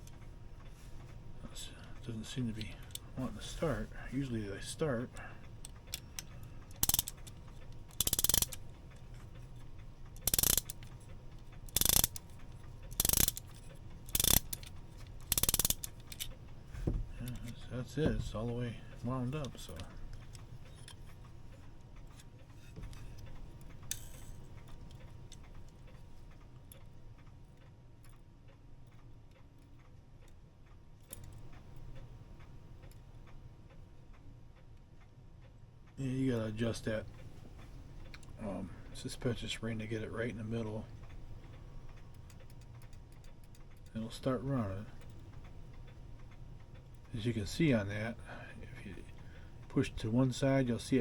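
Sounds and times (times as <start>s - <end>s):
clock ratchet clicking: 0.0s - 27.3s, 31.0s - 33.8s, 36.0s - 51.0s.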